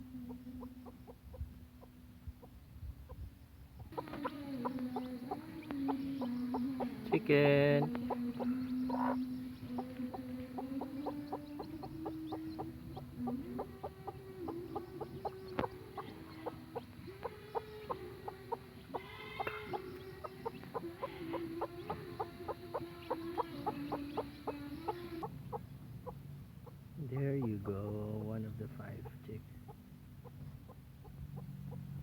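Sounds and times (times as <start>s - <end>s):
hen clucking: 0.0s - 32.0s
steady low tone: 0.0s - 32.0s.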